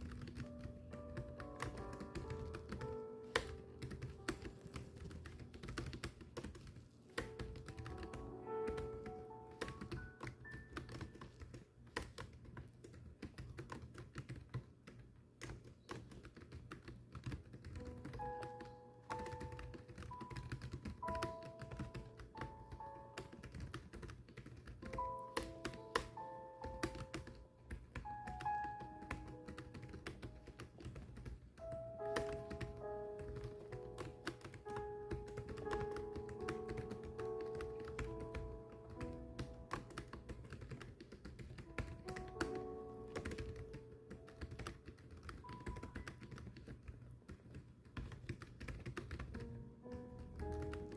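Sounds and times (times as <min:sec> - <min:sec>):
keyboard typing: 0:00.0 - 0:50.9
soft background music: 0:00.0 - 0:50.9.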